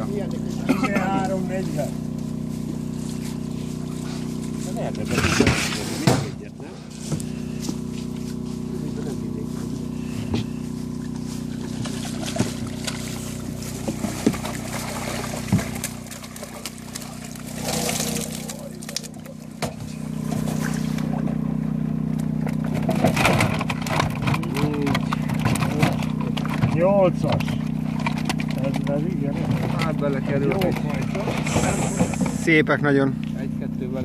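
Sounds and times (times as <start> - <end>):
water sloshing: 0.0 - 32.5
steady motor hum: 0.0 - 34.0
fish thrashing and splashing: 1.2 - 6.0, 9.7 - 32.4.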